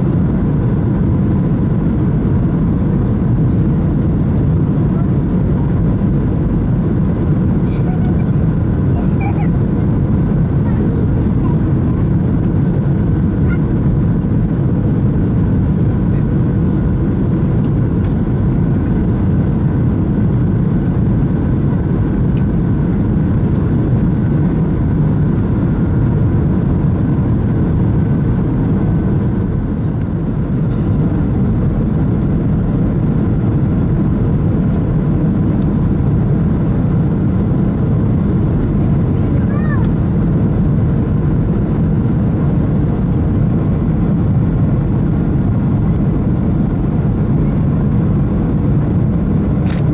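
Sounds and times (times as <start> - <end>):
airplane cabin drone: 0.0 - 49.9.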